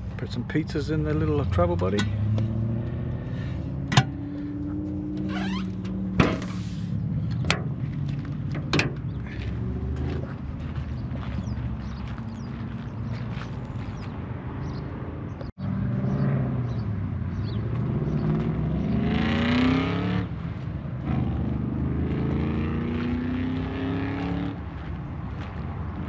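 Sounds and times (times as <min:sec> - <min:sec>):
vehicle engine accelerating: 0:00.9 - 0:26.0.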